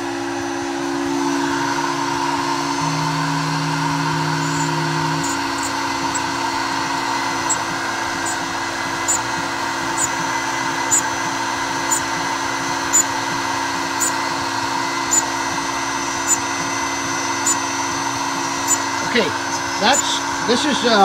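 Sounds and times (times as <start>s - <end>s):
mill bit cutting wax: 0.0s - 21.0s
milling machine spindle running: 0.0s - 21.0s.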